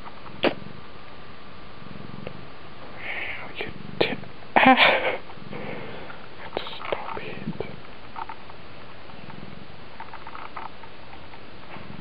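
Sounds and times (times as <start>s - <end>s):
cat purring: 0.2s - 12.0s.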